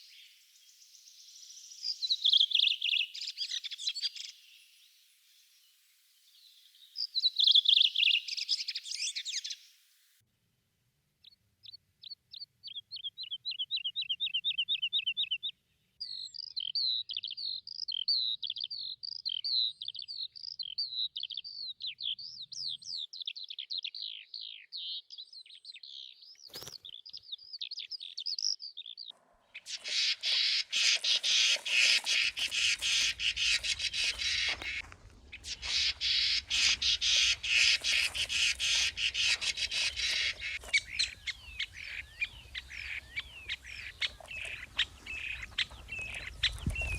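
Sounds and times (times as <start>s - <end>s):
chorus of many birds: 0.0s - 5.4s, 6.4s - 9.8s, 11.2s - 46.9s
songbirds singing: 0.0s - 9.8s, 11.2s - 46.9s.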